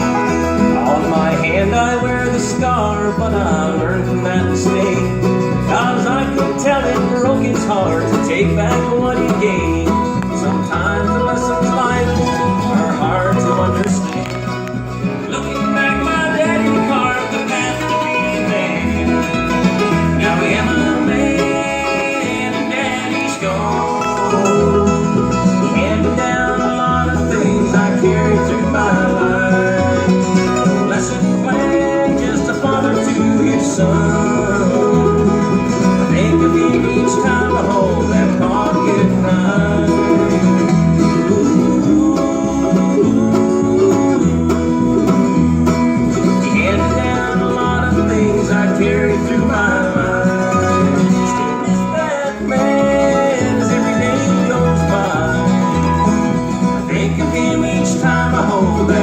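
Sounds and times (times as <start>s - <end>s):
banjo picking: 0.0s - 59.0s
bass line: 0.0s - 59.0s
bluegrass band playing: 0.0s - 59.0s.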